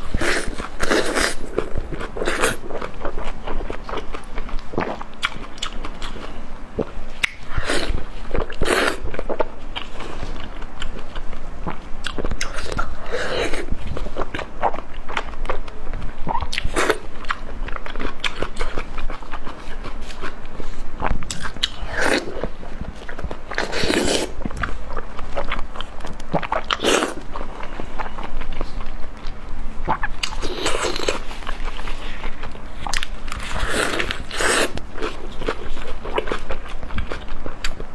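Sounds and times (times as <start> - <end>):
person chewing crunchy food: 0.0 - 37.9.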